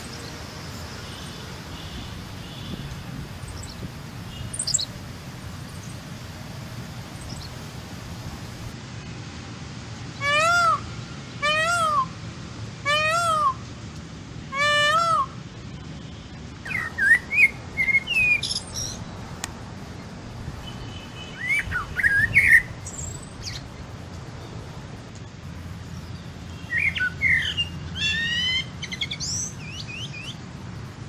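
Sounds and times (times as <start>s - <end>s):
songbirds chirping: 0.0s - 9.1s, 14.4s - 31.0s.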